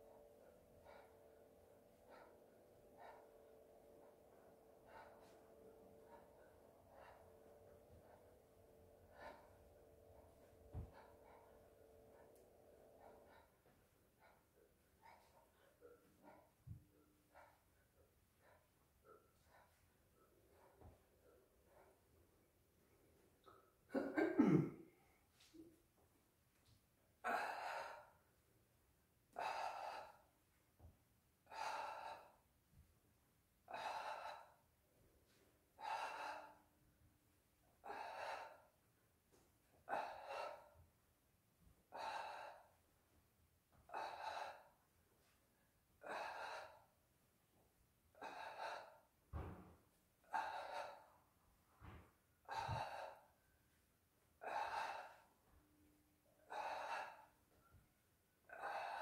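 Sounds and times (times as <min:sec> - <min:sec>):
man breathing rhythmically: 0:00.0 - 0:23.9, 0:24.9 - 0:59.0.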